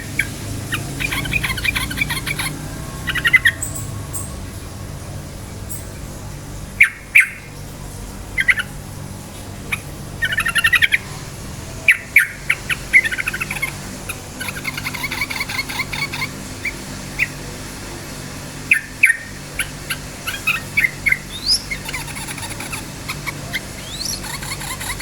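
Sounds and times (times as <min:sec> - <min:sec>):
bird singing bubbly phrases: 0:00.0 - 0:08.9, 0:09.6 - 0:17.5, 0:18.6 - 0:25.0
low hum: 0:00.0 - 0:24.2.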